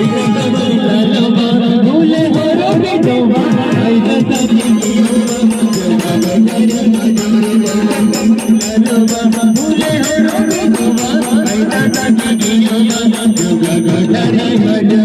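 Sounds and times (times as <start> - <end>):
held drone note: 0.0 - 14.9
fast rattling percussion beat: 0.0 - 15.0.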